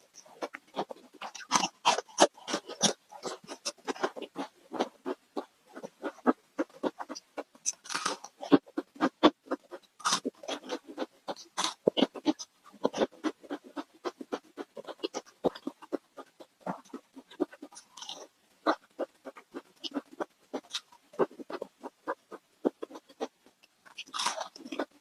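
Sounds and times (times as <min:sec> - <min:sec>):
chewing crispy fried food: 0:00.0 - 0:25.0.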